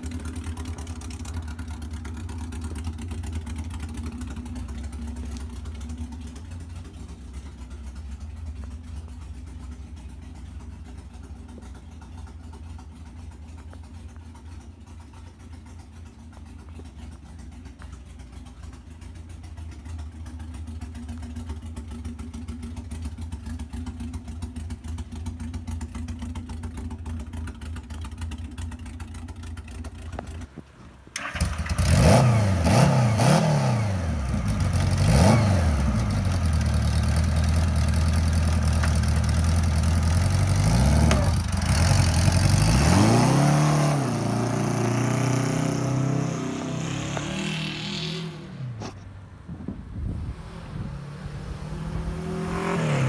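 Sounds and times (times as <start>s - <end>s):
engine idling and revving: 0.0s - 53.0s.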